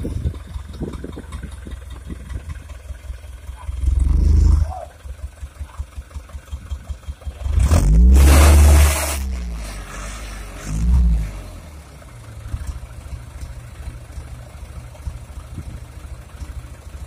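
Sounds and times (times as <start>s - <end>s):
diesel truck engine idling and revving: 0.0s - 17.0s.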